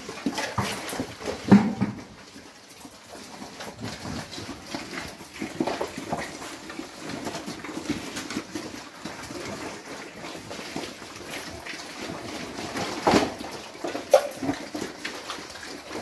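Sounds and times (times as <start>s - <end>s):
pigs chomping and slurping: 0.0s - 16.0s.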